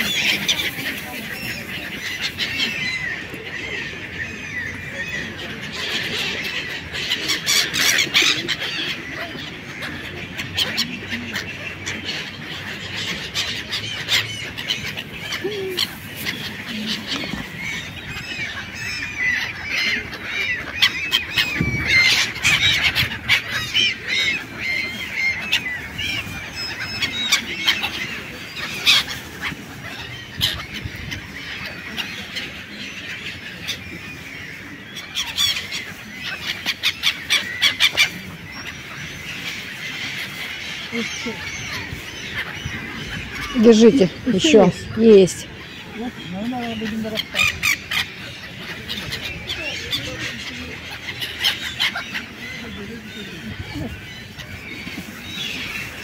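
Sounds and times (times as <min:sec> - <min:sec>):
gulls squealing calls: 0:00.0 - 0:56.0.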